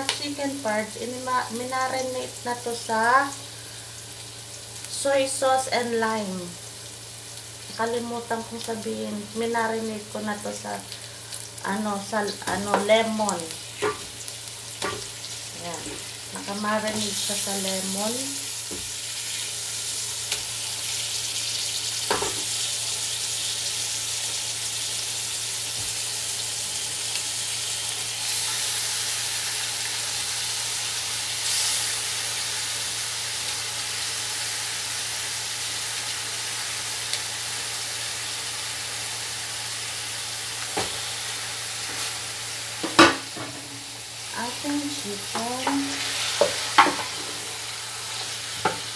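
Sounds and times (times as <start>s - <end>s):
chicken sizzling in a pot: 0.0s - 48.9s.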